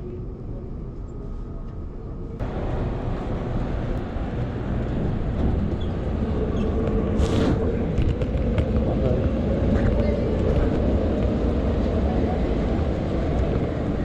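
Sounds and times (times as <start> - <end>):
low rumble of traffic or train: 0.0 - 14.0.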